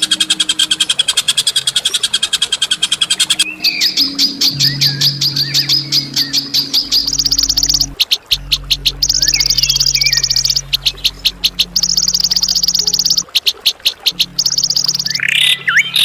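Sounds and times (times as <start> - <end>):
low steady drone: 0.0 - 16.0
songbird rattling trills: 0.0 - 16.0.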